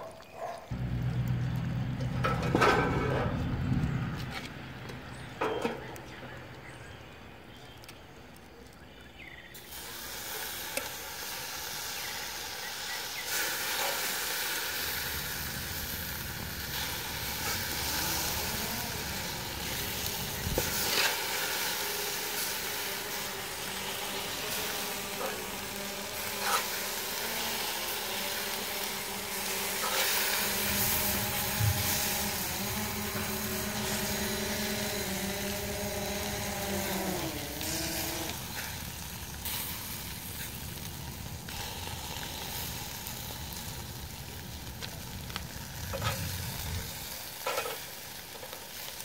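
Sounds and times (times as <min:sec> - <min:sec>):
chicken sizzling on a grill: 0:00.4 - 0:49.0.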